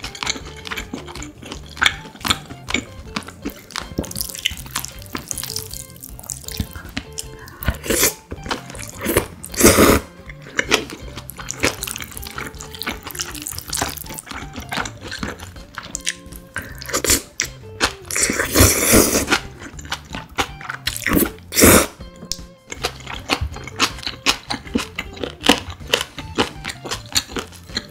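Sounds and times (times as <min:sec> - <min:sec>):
background music: 0:00.0 - 0:27.9.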